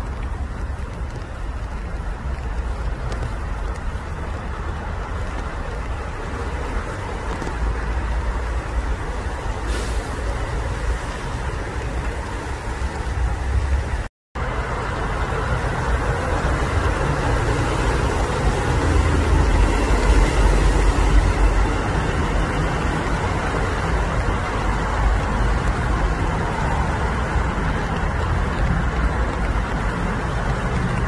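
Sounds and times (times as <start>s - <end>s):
road traffic rumble and hiss: 0.0s - 31.0s.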